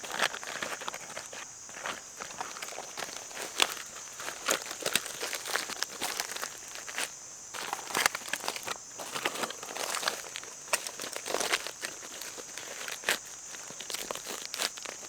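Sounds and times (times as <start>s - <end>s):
rustling and crinkling handling noise: 0.0s - 15.0s.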